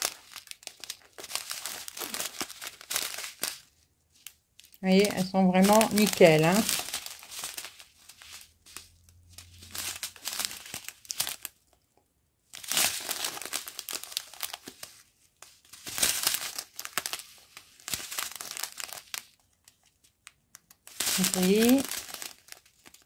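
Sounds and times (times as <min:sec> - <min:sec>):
plastic bags crinkling: 0:00.0 - 0:11.8, 0:12.5 - 0:23.0.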